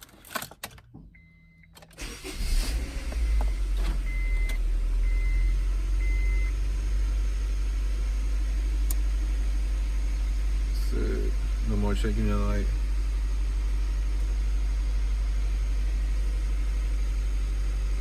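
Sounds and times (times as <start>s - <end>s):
car engine starting and idling: 0.0s - 18.0s.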